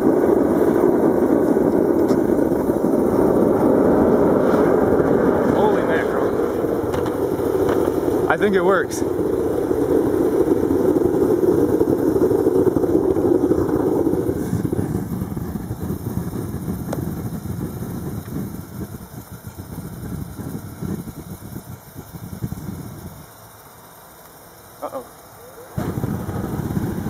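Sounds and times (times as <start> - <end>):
burner flame roaring: 0.0 - 27.0.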